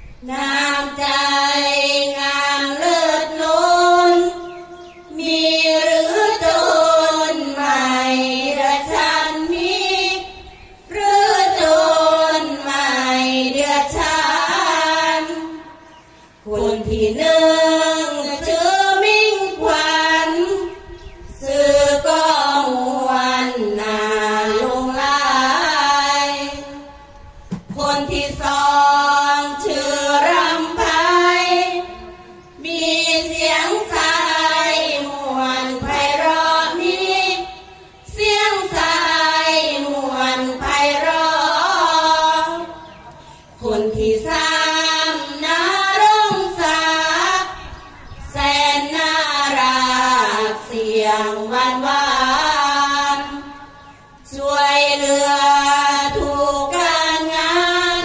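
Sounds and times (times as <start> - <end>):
women chanting in unison: 0.2 - 27.0, 27.6 - 58.0.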